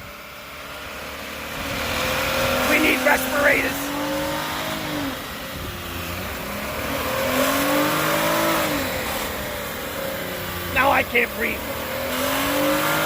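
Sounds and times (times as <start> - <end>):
car engine revving: 0.0 - 13.0
spinning tyre hissing: 0.0 - 13.0.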